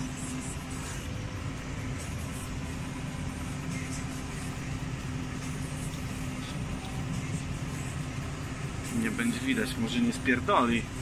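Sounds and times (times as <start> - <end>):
tractor engine drone: 0.0 - 11.0.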